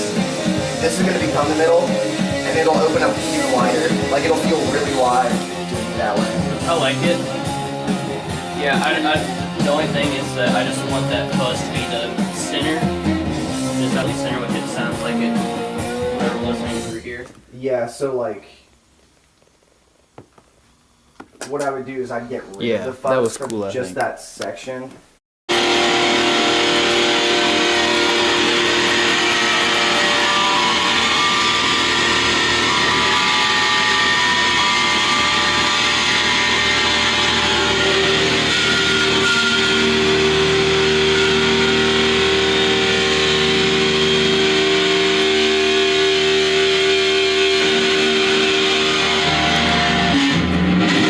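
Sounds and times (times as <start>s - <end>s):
distorted electric guitar rock music: 0.0s - 17.0s, 26.5s - 51.0s.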